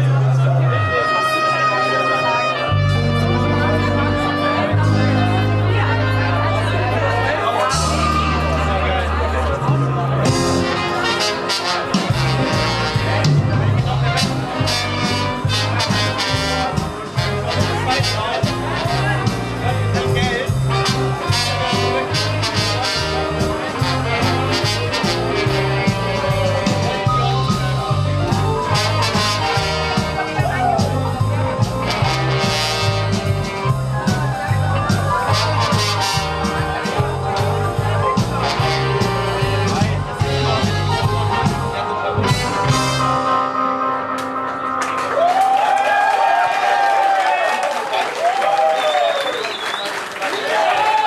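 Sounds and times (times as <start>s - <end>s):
brass horn: 0.0s - 45.0s
bass guitar: 0.0s - 45.7s
live band playing: 0.0s - 47.2s.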